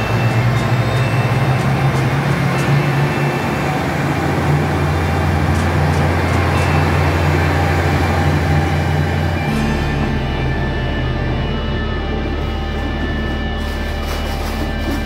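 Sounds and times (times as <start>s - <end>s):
train diesel engine drone: 0.0s - 15.0s.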